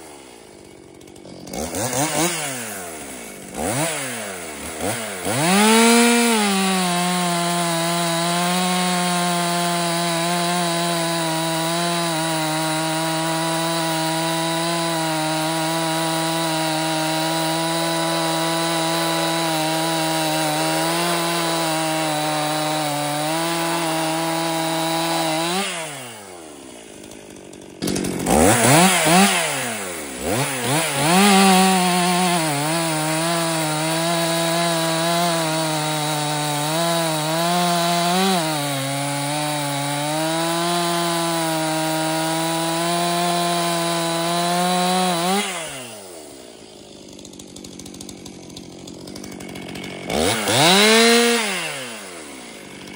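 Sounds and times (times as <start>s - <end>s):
chainsaw cutting log: 0.0s - 52.9s
chainsaw revving: 0.0s - 52.9s.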